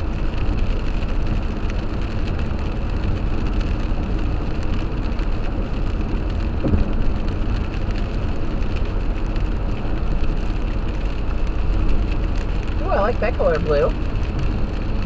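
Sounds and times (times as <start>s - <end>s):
car engine drone: 0.0s - 15.0s
tyres on wet pavement: 0.0s - 15.0s.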